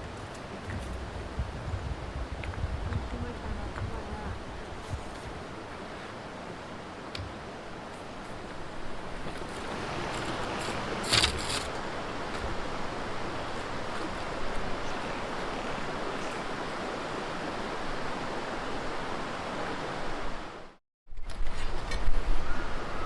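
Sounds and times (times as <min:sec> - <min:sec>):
stream rushing over rocks: 0:00.0 - 0:20.7.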